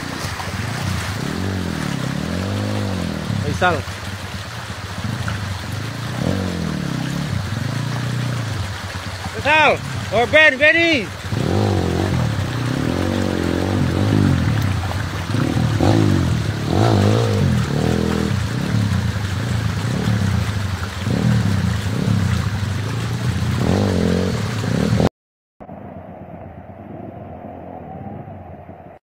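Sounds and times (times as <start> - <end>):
dirt bike engine revving: 0.0 - 3.9, 5.0 - 8.5, 9.2 - 25.1
water splashing and rushing: 0.0 - 25.1.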